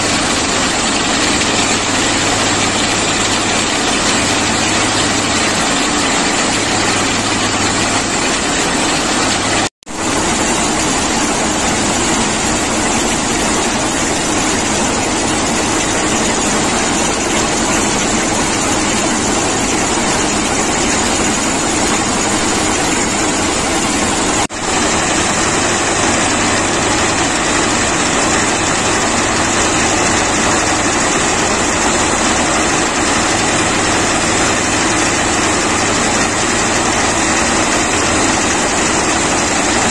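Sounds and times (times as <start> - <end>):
heavy machine engines and gear: 0.0 - 39.9.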